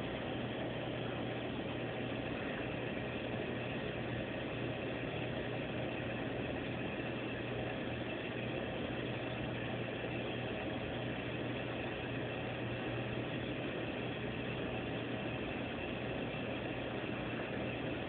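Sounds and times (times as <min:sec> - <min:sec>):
aquarium pump humming: 0:00.0 - 0:18.0.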